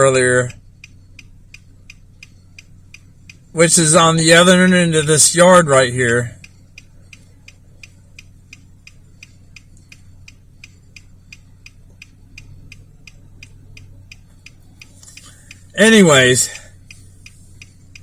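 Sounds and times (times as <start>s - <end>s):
low steady hum: 0.0s - 18.0s
turn signal ticking: 0.0s - 18.0s.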